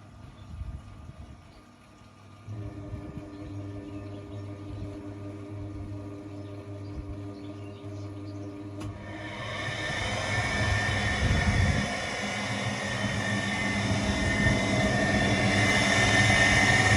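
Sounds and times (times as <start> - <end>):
washing machine running noise: 0.0 - 16.9
washing machine motor humming: 2.4 - 16.9.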